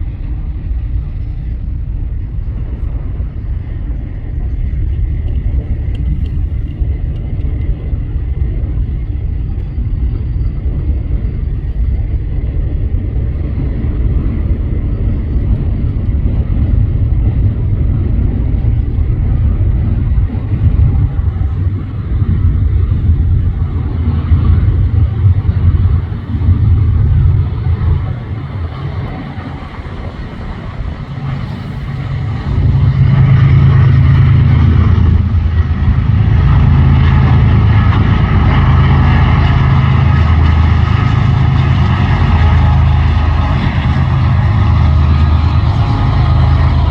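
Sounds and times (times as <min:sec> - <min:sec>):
diesel locomotives rumbling: 0:00.0 - 0:46.9.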